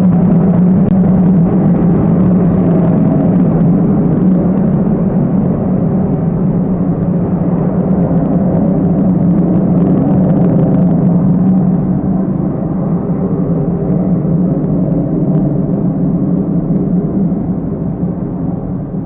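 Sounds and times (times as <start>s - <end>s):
jet engines deep rumble: 0.0s - 19.0s.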